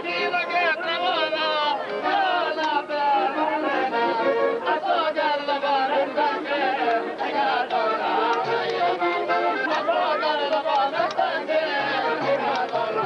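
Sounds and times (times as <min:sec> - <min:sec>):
man singing ornamented folk song: 0:00.0 - 0:13.0.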